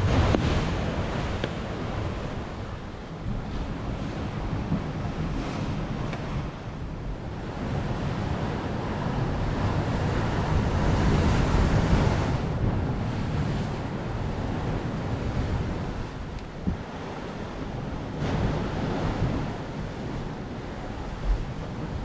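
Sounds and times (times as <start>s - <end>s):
waves breaking on shore: 0.0s - 22.0s
wind buffeting microphone: 0.0s - 22.0s.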